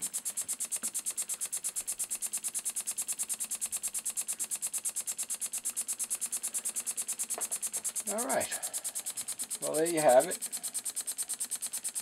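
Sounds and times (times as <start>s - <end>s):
steam engine exhaust chuffing: 0.0s - 12.0s.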